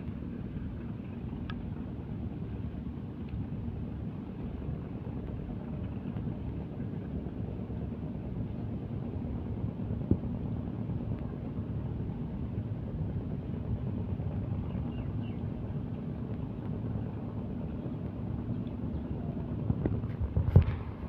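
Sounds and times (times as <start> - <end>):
boat engines rumbling: 0.0 - 21.0.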